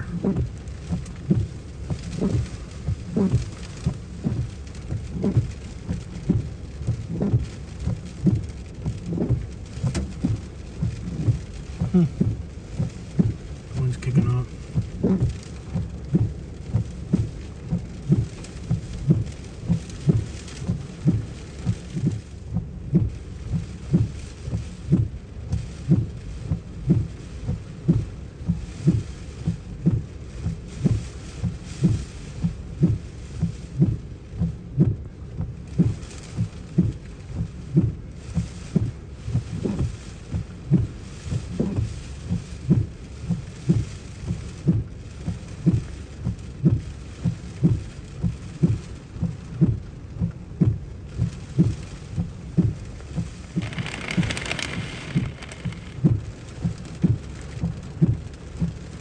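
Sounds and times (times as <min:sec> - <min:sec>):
steady low thumps: 0:00.0 - 0:39.6, 0:49.2 - 0:59.0
wind-driven rain hiss: 0:00.0 - 0:59.0.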